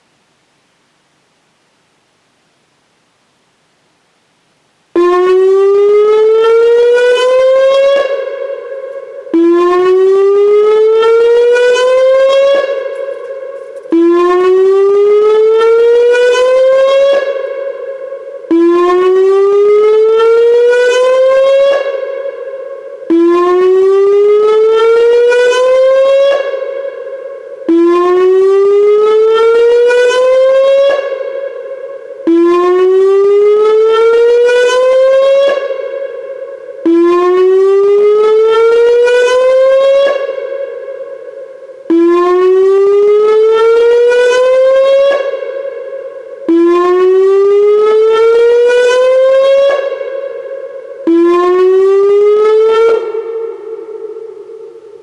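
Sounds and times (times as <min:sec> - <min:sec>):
warning siren whoop tone: 0:05.0 - 0:55.0.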